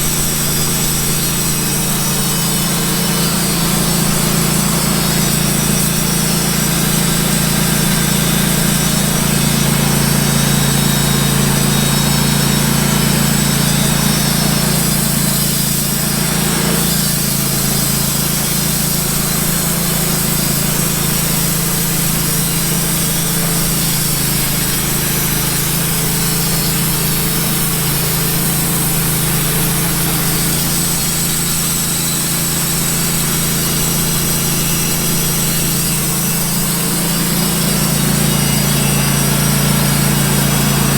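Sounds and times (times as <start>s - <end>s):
gas saw cutting log: 0.0s - 40.9s.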